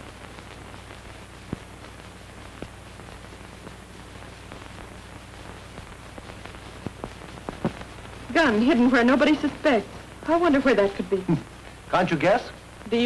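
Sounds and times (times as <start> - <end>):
crackles: 0.0 - 13.0
film soundtrack hiss and hum: 0.0 - 13.0.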